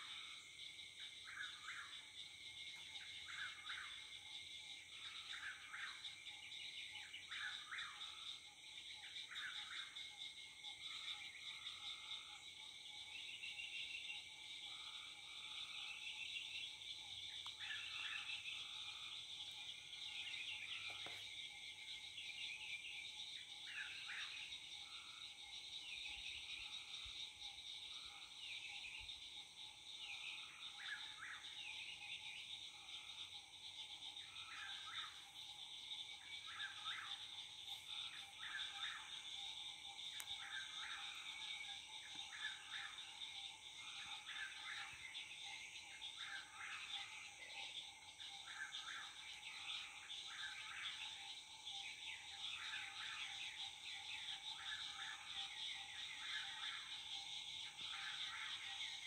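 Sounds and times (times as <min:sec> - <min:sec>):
frogs and insects trilling: 0:00.0 - 0:59.0.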